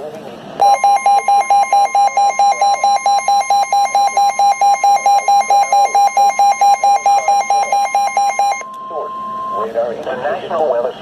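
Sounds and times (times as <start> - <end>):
lower alarm tone beeping: 0.6 - 9.6
steady alarm tone: 0.6 - 9.7.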